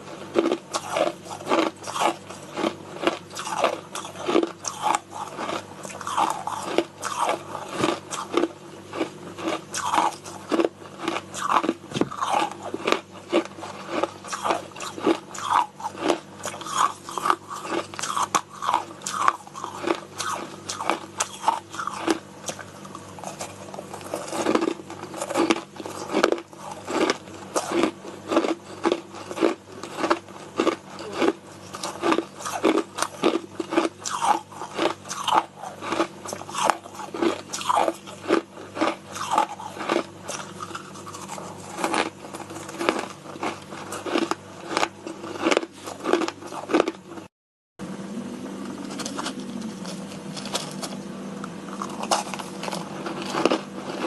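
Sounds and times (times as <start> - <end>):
person chewing crushed ice: 0.0 - 47.3, 48.6 - 54.0.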